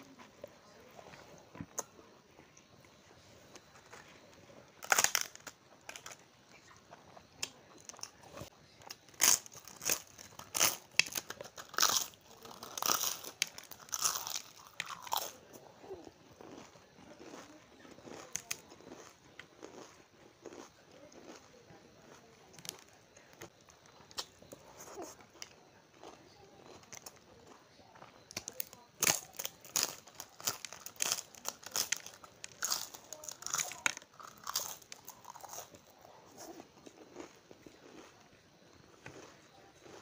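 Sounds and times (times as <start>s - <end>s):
crisps crunching: 3.5s - 6.7s, 7.4s - 27.6s, 28.2s - 38.2s
chewing and mouth sounds: 4.8s - 40.0s.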